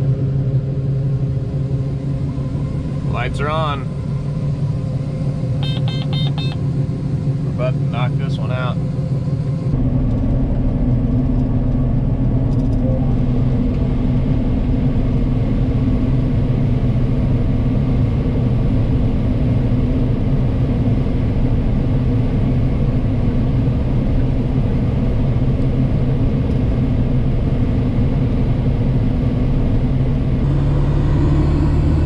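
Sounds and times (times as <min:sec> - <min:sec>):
combine harvester droning: 0:00.0 - 0:32.0.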